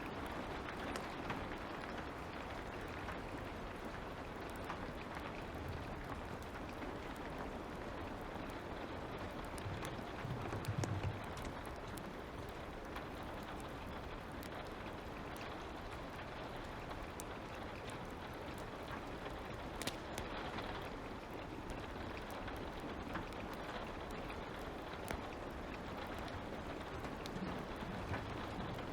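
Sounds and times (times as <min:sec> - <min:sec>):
light rain falling: 0:00.0 - 0:28.9
wood fire crackling and popping: 0:00.0 - 0:28.9.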